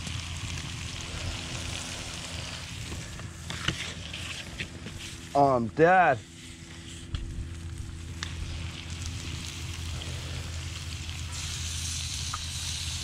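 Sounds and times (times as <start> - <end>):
fish sizzling in a skillet: 0.0 - 5.3, 6.3 - 13.0
steady low hum: 0.0 - 13.0.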